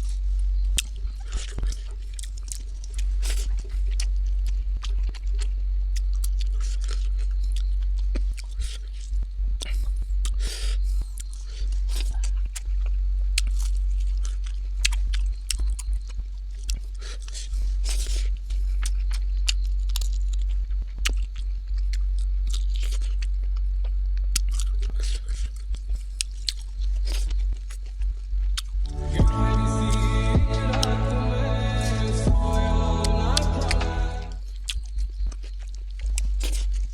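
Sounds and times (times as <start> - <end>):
low electrical hum: 0.0 - 36.9
person chewing and crunching: 0.1 - 29.3, 32.8 - 36.9.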